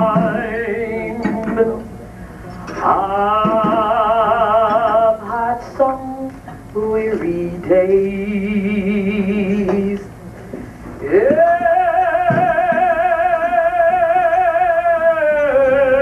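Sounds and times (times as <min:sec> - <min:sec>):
woman singing with vibrato: 0:00.0 - 0:01.9, 0:02.7 - 0:10.1, 0:11.0 - 0:16.0.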